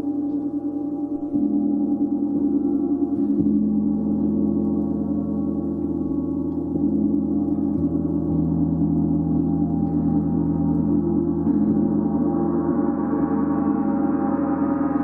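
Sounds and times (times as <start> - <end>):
gong resonating: 0.0 - 15.0.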